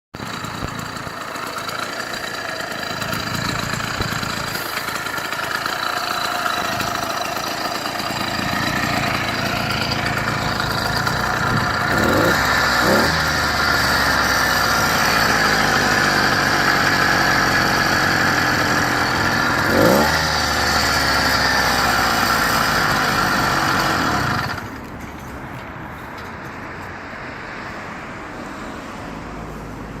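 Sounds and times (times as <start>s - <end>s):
small engine running: 0.2s - 24.9s.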